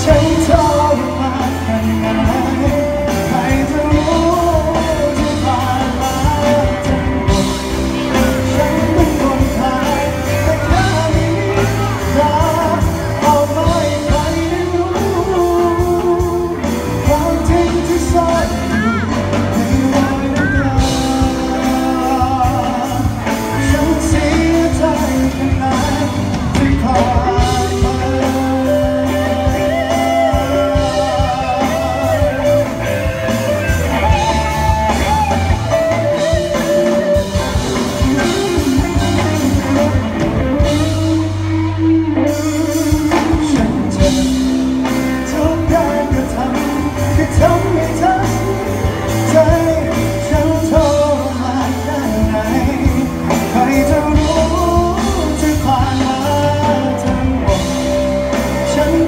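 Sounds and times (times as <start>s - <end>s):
live pop band playing: 0.0s - 59.0s
man singing: 0.0s - 59.0s.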